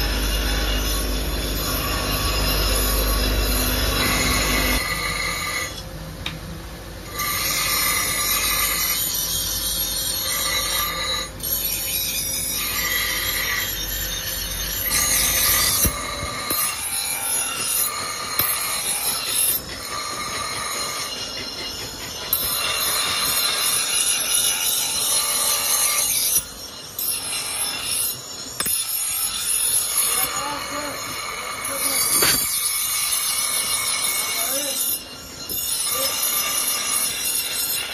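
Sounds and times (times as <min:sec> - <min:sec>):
grinding wheel on steel: 0:00.0 - 0:06.4, 0:07.0 - 0:37.9.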